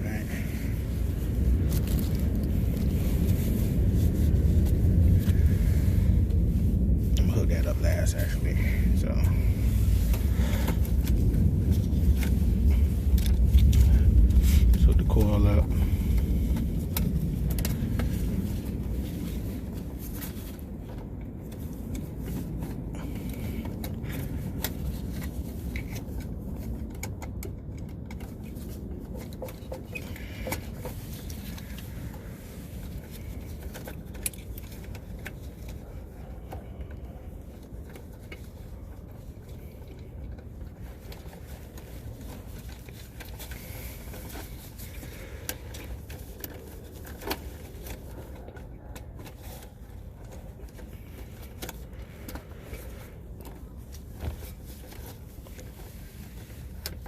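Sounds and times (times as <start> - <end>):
low background rumble: 0.0 - 57.0
scrapes and clicks of wiring work: 0.0 - 57.0.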